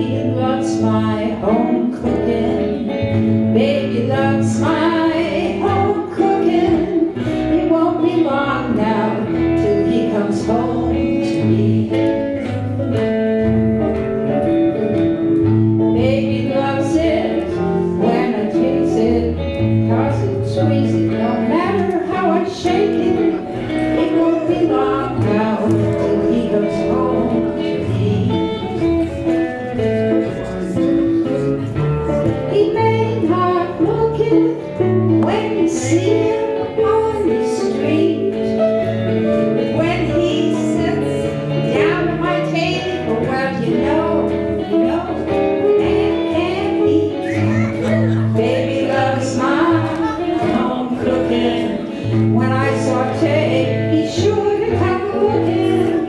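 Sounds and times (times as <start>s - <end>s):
acoustic guitars: 0.0s - 56.0s
electric bass: 0.0s - 56.0s
person singing: 0.0s - 56.0s.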